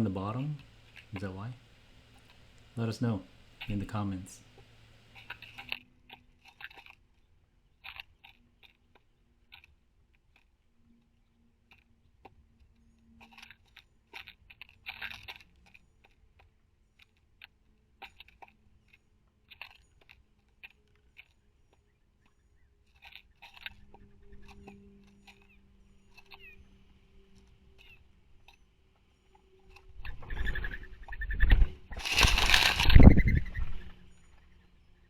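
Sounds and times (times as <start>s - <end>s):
birds pecking at seeds: 0.0s - 35.0s.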